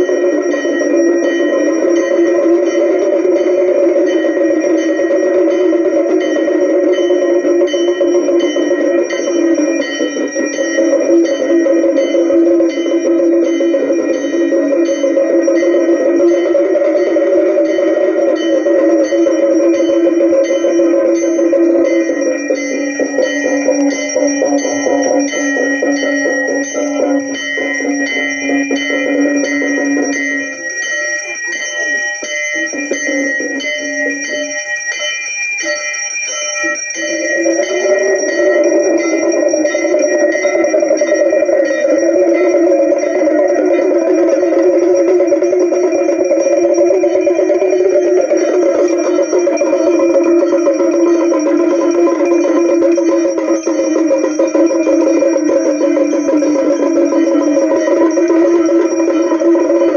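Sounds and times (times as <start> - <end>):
rapid percussion strikes: 0.0 - 59.9
sustained tones: 0.0 - 59.9
temple bells ringing: 0.0 - 59.9.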